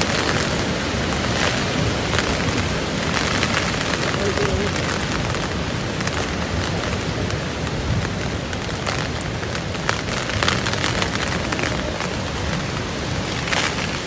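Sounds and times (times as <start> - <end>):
tent fabric flapping in wind: 0.0 - 14.0.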